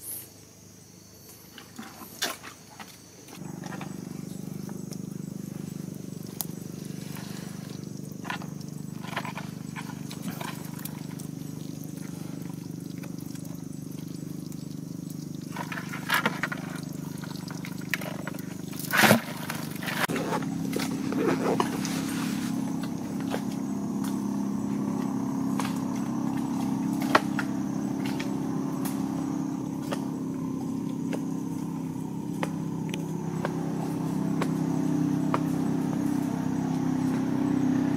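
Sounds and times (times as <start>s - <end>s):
steady low hum: 3.2s - 37.9s.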